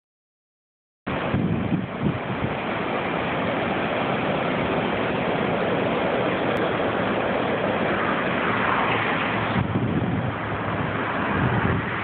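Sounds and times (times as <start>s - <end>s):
heavy surf breaking: 1.1s - 12.0s
wind buffeting microphone: 1.1s - 12.0s.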